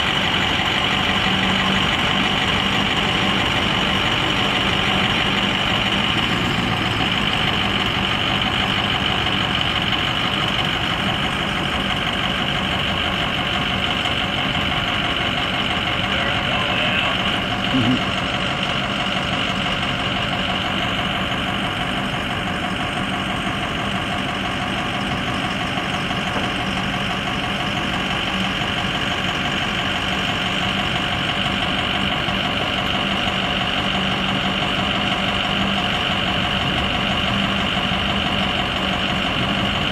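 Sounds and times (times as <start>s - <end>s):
diesel engine idling: 0.0s - 39.9s
engine knock: 0.0s - 39.9s.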